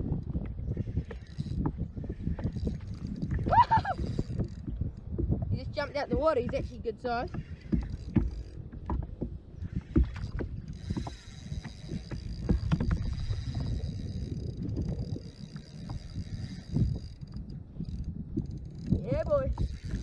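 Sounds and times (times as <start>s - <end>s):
water slapping and splashing: 0.0s - 20.0s.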